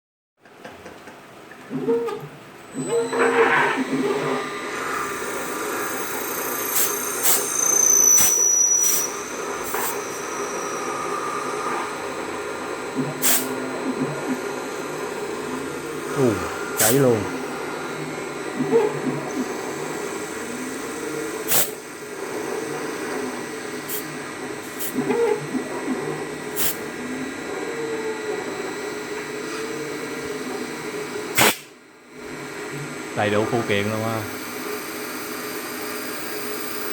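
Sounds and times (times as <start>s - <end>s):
lathe machine hum: 1.6s - 31.4s, 32.0s - 36.9s
high-pitched cutting whine: 1.7s - 36.9s.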